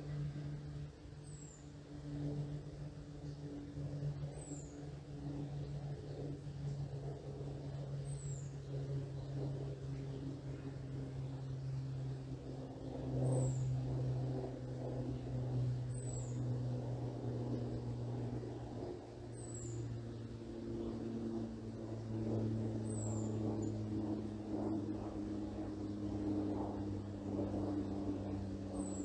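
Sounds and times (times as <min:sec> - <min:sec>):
aircraft drone overhead: 0:00.0 - 0:29.0.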